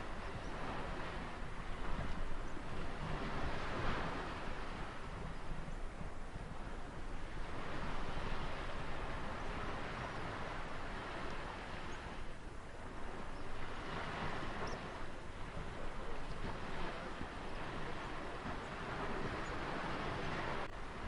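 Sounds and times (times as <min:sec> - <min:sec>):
ocean surf washing in: 0:00.0 - 0:21.0.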